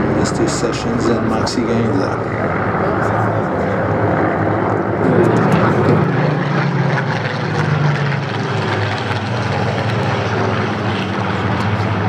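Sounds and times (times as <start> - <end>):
aircraft piston engines droning: 0.0 - 12.0.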